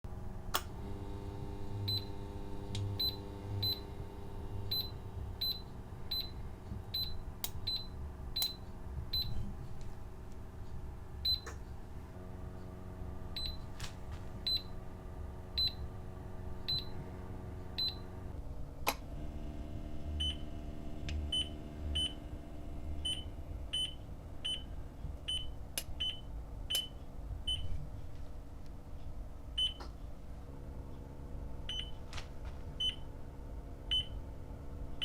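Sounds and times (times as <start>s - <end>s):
steady low hum: 0.1s - 35.0s.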